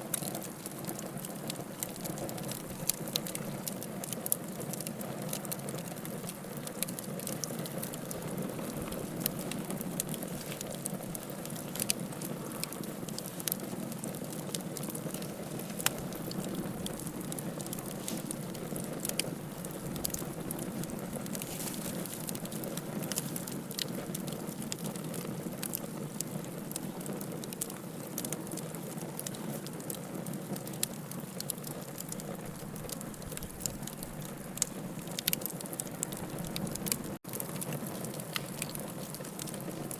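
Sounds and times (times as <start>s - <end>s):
bonfire wood crackling and popping: 0.0s - 39.9s.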